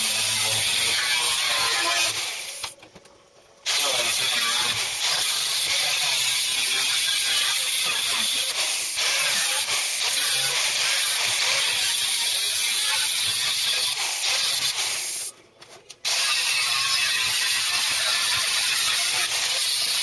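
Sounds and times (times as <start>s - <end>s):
power tool cutting sheet steel: 0.0s - 2.7s, 3.7s - 15.3s, 16.0s - 20.0s.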